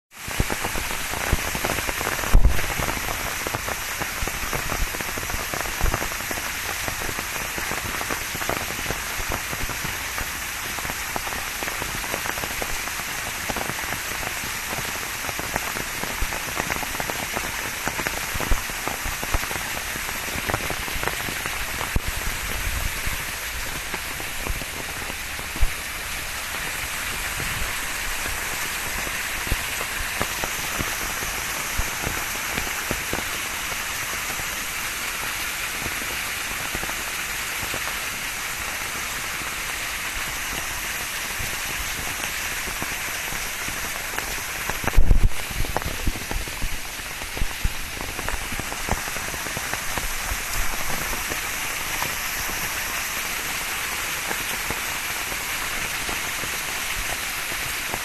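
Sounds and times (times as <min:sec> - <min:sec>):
waterfall splashing: 0:00.2 - 0:58.0.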